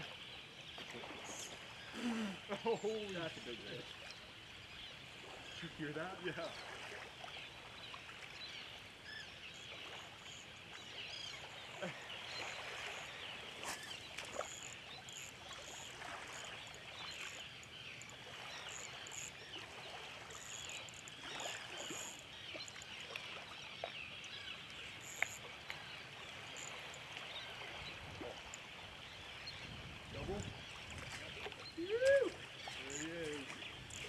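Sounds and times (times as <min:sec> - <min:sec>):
small waves lapping shoreline: 0:00.0 - 0:34.0.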